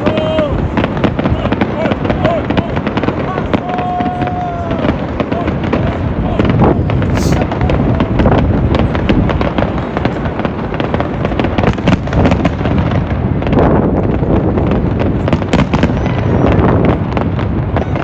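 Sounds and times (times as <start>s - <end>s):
firework bangs and crackling: 0.0s - 18.0s.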